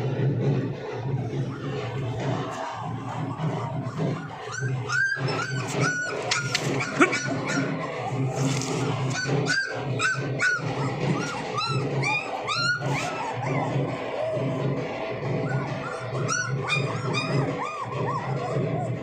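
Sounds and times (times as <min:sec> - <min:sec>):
puppies whining and yipping: 0:00.7 - 0:19.0.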